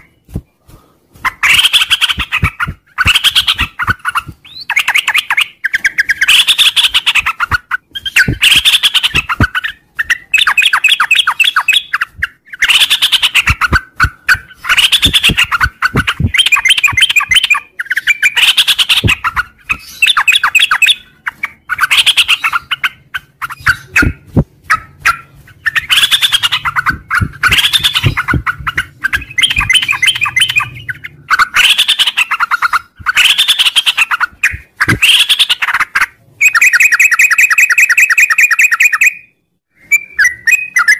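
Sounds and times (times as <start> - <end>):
bulbul chattering song: 1.2 - 39.3.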